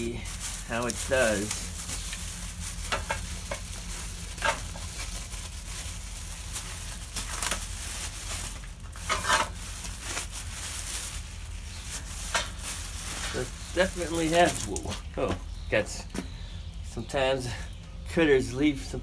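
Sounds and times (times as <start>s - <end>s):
plastic bag rustling: 0.0s - 15.6s.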